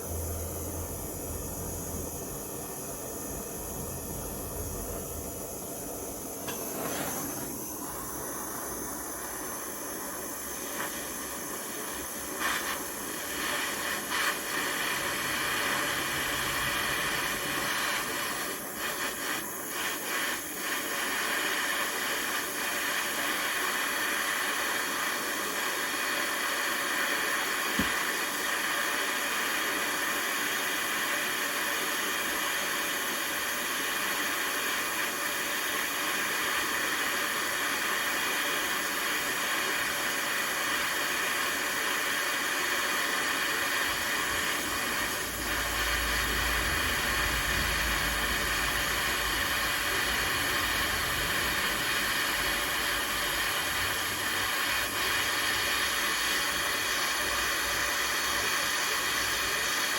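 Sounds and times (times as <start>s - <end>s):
gas burner hissing: 0.0s - 59.9s.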